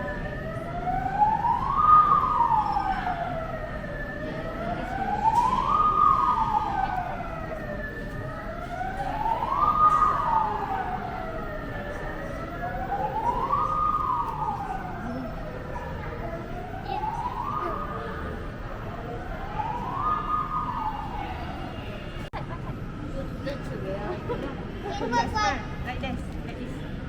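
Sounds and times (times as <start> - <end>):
emergency siren wailing: 0.0 - 22.3.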